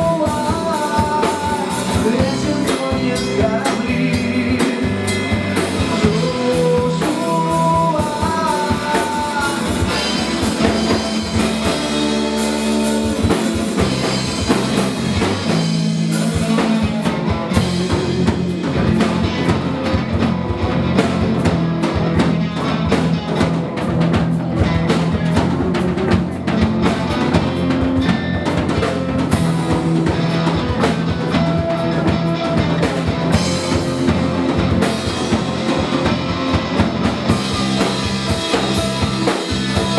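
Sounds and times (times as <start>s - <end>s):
drum kit beat: 0.0s - 39.9s
rock guitar: 0.0s - 39.9s.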